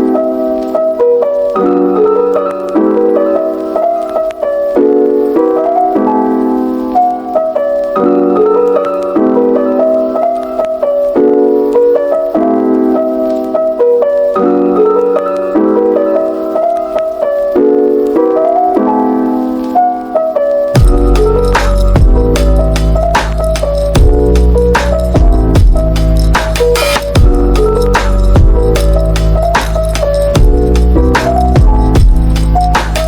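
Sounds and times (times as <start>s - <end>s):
gentle piano tune: 0.0s - 33.0s.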